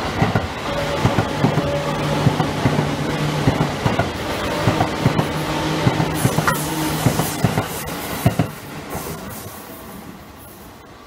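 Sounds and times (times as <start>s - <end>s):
train passing close by: 0.0s - 11.0s.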